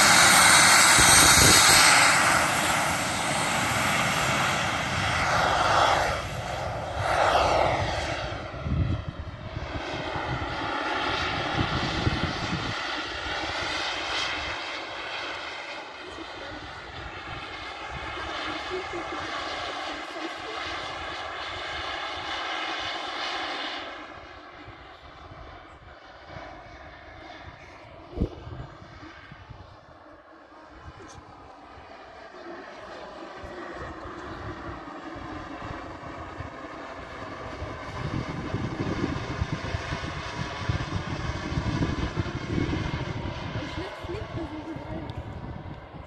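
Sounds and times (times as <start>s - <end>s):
model aircraft engine whine: 0.0s - 46.0s.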